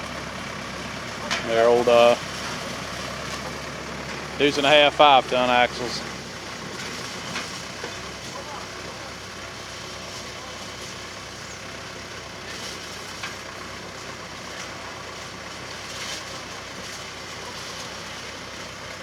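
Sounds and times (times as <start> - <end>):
harvesting machine engine running: 0.0 - 19.0.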